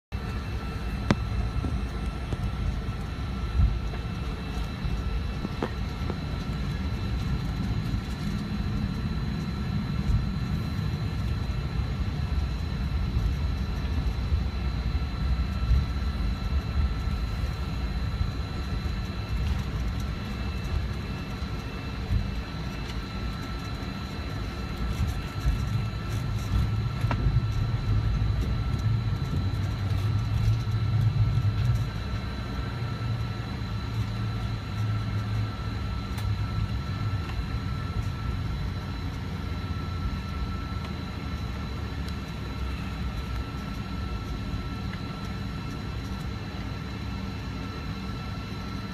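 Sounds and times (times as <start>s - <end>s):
airliner low rumble: 0.1s - 48.9s
jet engine whine: 0.1s - 48.9s.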